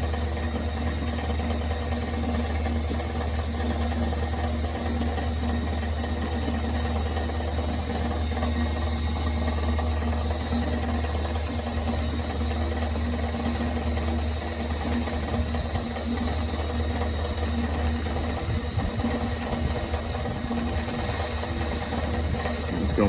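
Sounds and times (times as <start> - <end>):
lathe motor humming: 0.0 - 23.0.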